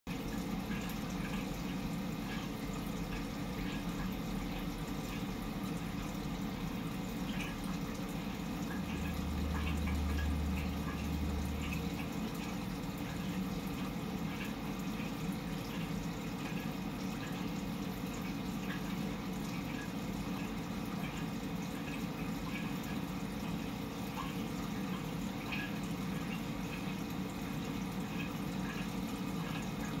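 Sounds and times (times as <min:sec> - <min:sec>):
faint drip-like ticks: 0:00.1 - 0:30.0
running water: 0:00.1 - 0:30.0.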